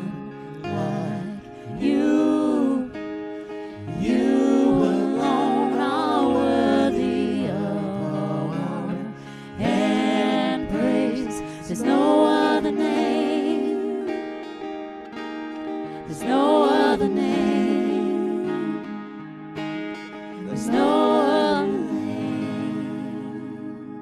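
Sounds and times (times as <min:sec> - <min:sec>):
voices singing gospel song: 0:00.0 - 0:14.9, 0:15.6 - 0:24.0.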